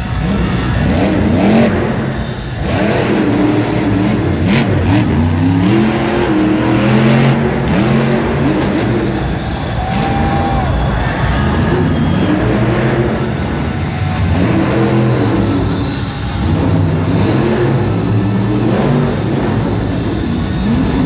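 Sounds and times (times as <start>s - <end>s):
monster truck engines revving: 0.0s - 21.0s.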